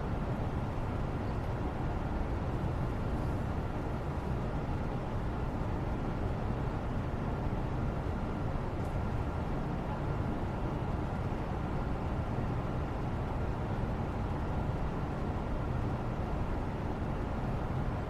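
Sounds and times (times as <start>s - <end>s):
low rumbling white noise: 0.0s - 18.0s.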